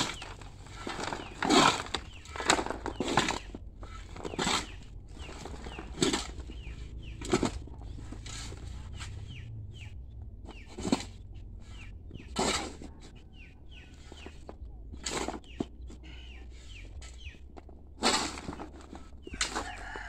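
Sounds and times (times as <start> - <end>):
shovel scraping soil on metal: 0.0 - 9.4, 10.5 - 20.0.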